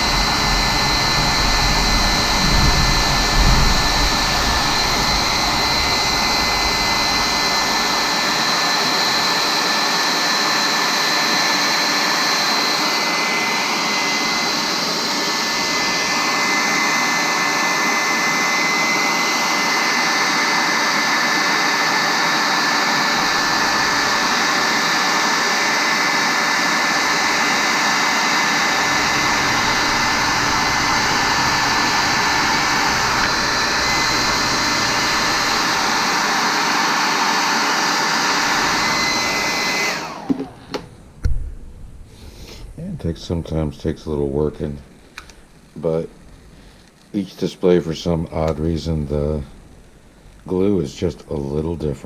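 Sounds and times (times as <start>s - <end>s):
heat gun blowing air: 0.0s - 41.4s, 42.0s - 42.9s.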